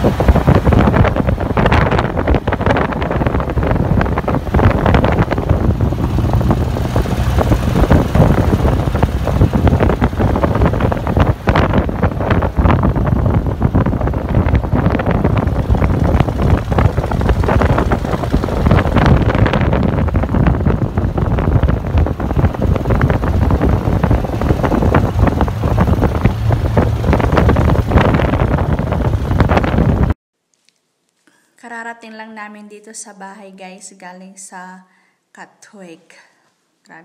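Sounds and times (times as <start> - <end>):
motor trike engine: 0.0 - 30.1
road noise: 0.0 - 30.2
wind buffeting microphone: 0.0 - 30.2.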